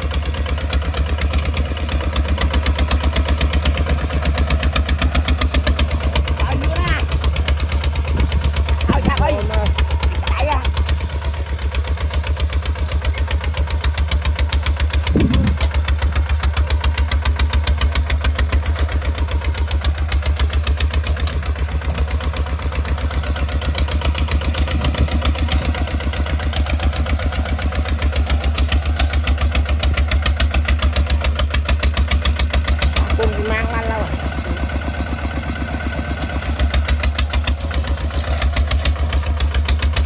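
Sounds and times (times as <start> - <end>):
diesel engine chugging: 0.0 - 40.0.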